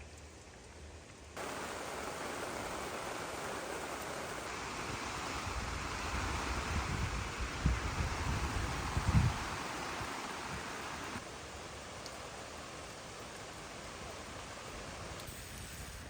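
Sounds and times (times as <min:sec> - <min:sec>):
heavy rain hissing: 0:01.4 - 0:16.0.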